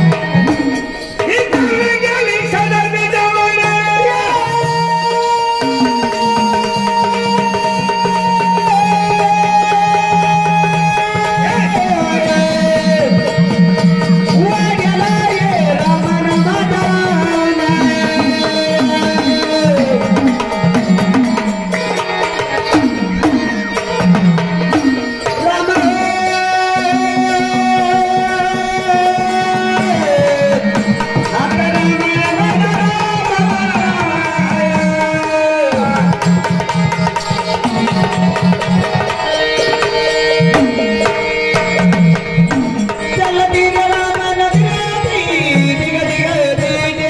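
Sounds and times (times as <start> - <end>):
hand drum rhythm: 0.0 - 47.0
melody of held gliding notes: 0.0 - 47.0.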